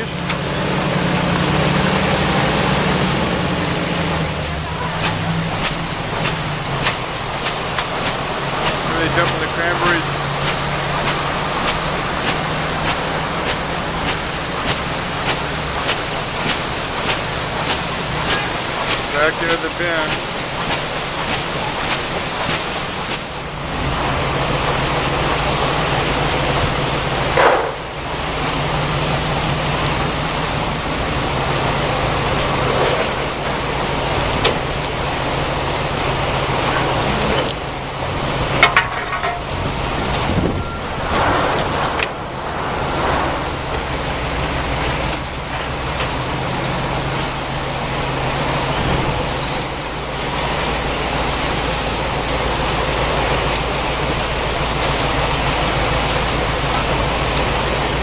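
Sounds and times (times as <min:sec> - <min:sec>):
truck engine running: 0:00.0 - 0:58.0
knocks and rattles: 0:04.7 - 0:58.0.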